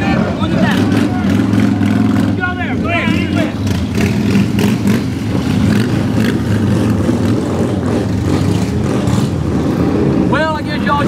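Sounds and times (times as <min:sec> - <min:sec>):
motorcycle and car engines idling: 0:00.0 - 0:11.0.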